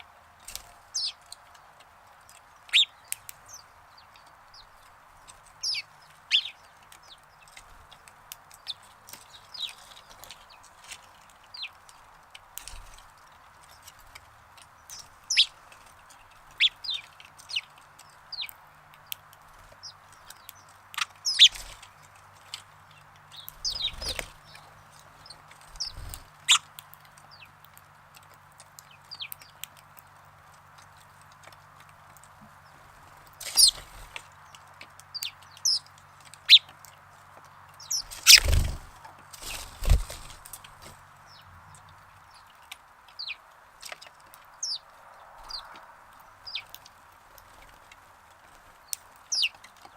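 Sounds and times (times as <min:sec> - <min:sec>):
sparrows chirping: 0:00.0 - 0:49.9.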